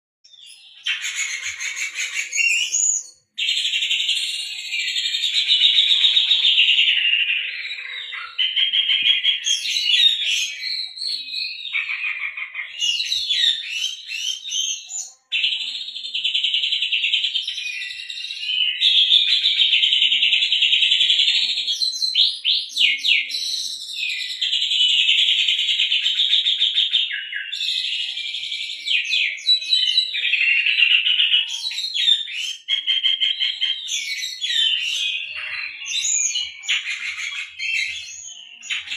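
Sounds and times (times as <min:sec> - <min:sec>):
bird singing fast trills: 0:00.3 - 0:38.9.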